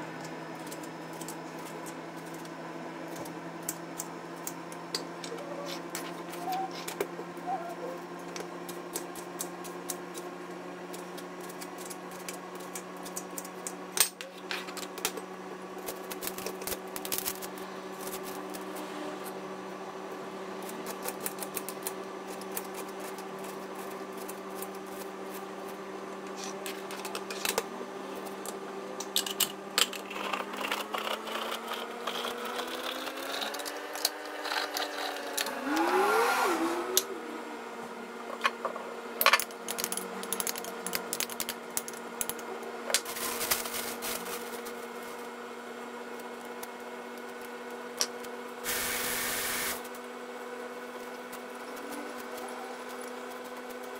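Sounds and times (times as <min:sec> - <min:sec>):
steady hum: 0:00.0 - 0:53.9.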